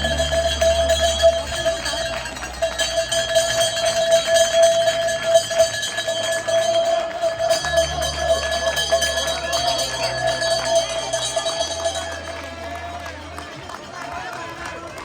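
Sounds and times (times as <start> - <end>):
cowbell clanging: 0.0 - 12.4.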